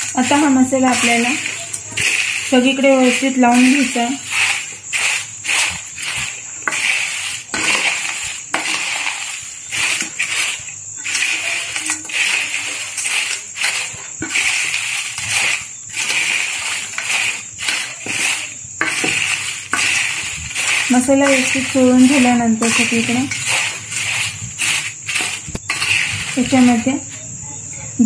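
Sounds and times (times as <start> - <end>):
corn flakes rustling and crunching: 0.0 - 27.2.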